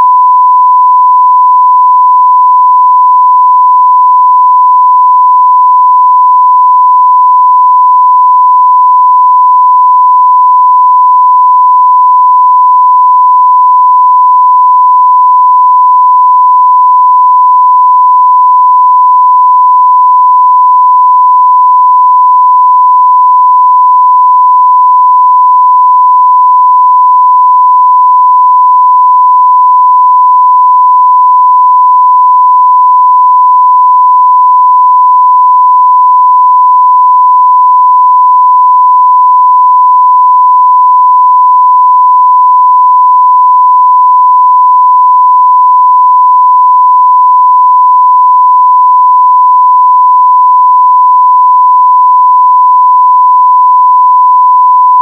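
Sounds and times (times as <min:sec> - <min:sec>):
sine-wave test tone: 0:00.0 - 0:55.0.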